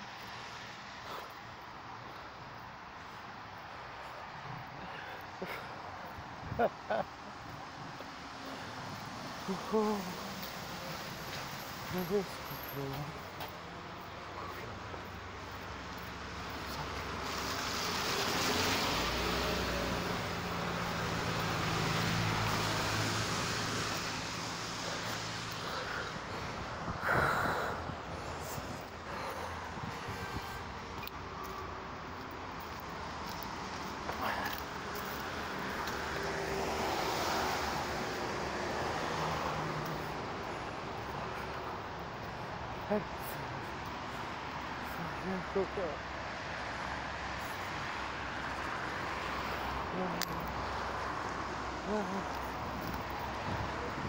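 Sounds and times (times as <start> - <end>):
cars driving past on damp road: 0.0 - 54.0.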